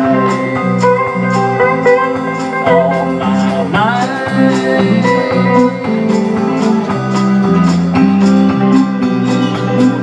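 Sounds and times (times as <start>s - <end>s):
guitars holding chords: 0.0s - 10.0s
percussion beat: 0.0s - 10.0s.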